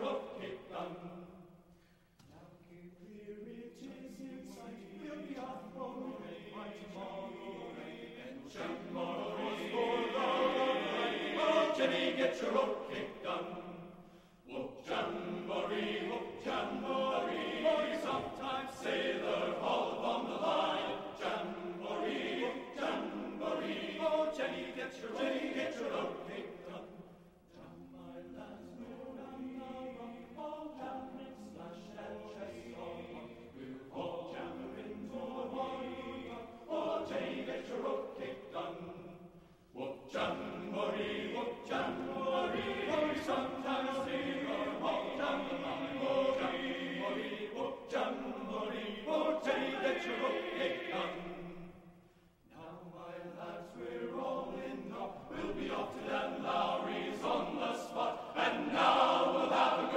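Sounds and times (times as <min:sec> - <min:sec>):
mixed choir singing: 0:00.0 - 0:01.7, 0:02.3 - 0:59.9.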